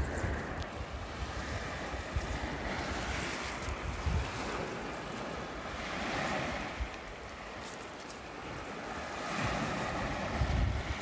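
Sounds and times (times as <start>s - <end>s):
surf on a shingle beach: 0.0s - 11.0s
wind buffeting microphone: 0.0s - 11.0s.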